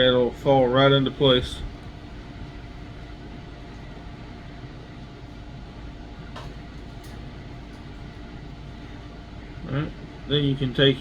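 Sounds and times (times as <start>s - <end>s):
room noise hum with faint tone: 0.0s - 11.0s.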